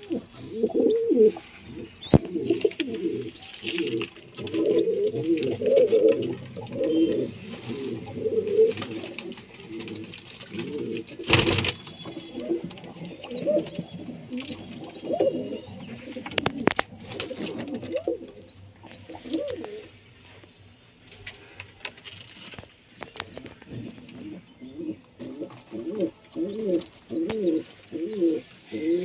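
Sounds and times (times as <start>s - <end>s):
pigeons cooing: 0.0s - 20.1s, 23.0s - 29.0s.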